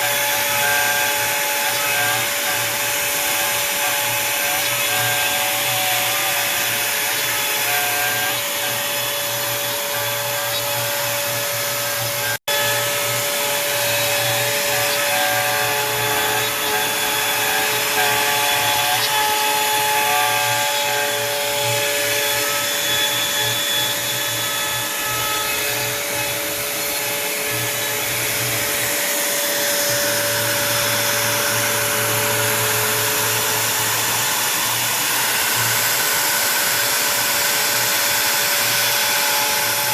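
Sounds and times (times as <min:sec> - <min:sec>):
router cutting wood: 0:00.0 - 0:39.9
router spindle whine: 0:00.0 - 0:39.9
stepper motors singing tones: 0:00.0 - 0:39.9.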